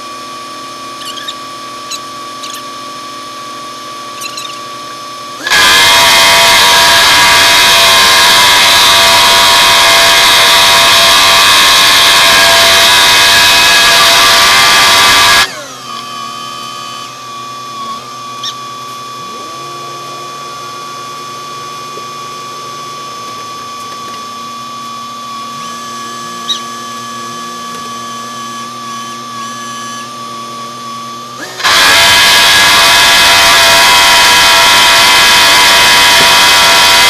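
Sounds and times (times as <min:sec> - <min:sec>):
machinery whining: 0:00.2 - 0:37.0.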